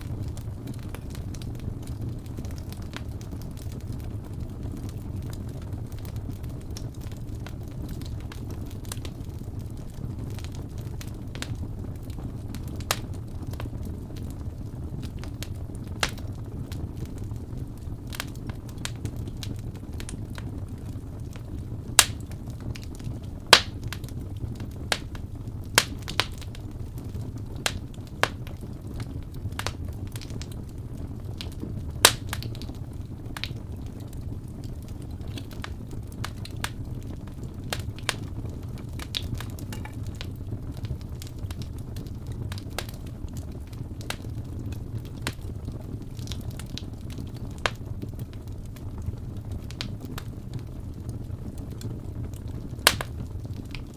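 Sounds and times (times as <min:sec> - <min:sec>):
fire crackles and pops: 0:00.0 - 0:53.9
low rumble of flames: 0:00.0 - 0:53.9.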